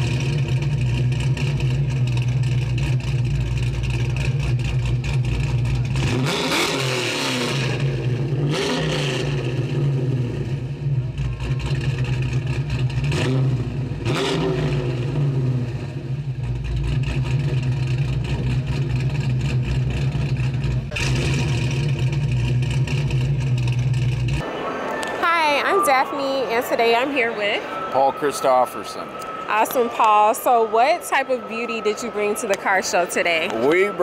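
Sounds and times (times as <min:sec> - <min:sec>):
car engine droning: 0:00.0 - 0:25.2, 0:27.2 - 0:34.0.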